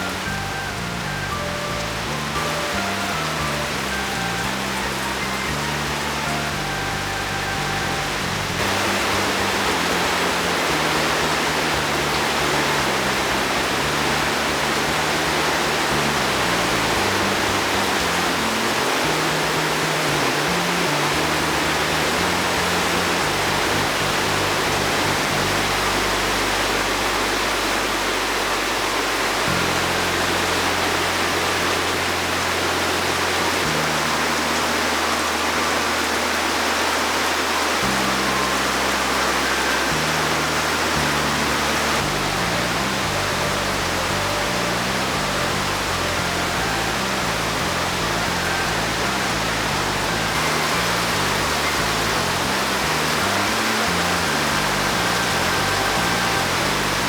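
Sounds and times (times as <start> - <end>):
background music: 0.0 - 57.0
rainwater rushing: 0.0 - 57.0.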